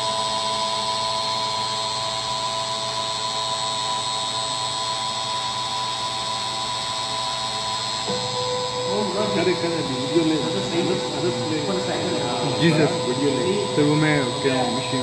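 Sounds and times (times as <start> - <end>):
spindle motor high-pitched whine: 0.0 - 15.0.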